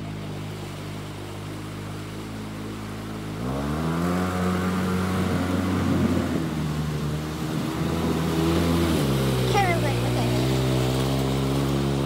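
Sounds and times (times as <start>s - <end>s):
water splashing: 0.0s - 12.0s
utv engine revving: 0.9s - 12.0s.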